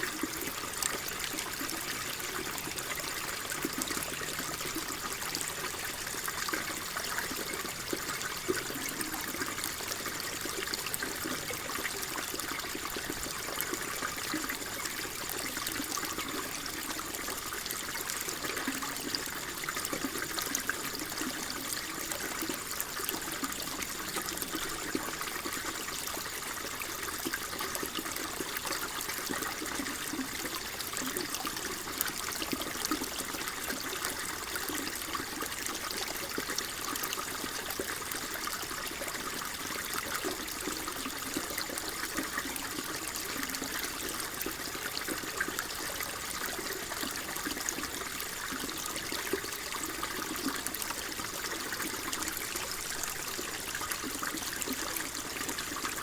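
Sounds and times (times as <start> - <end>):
water flowing and trickling: 0.0 - 56.0.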